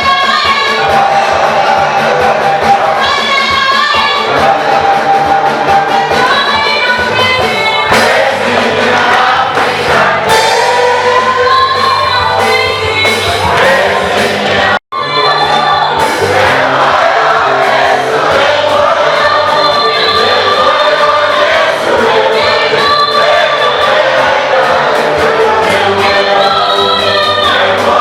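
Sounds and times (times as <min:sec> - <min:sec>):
choir singing gospel: 0:00.0 - 0:28.0
instrumental accompaniment with bass: 0:00.0 - 0:28.0.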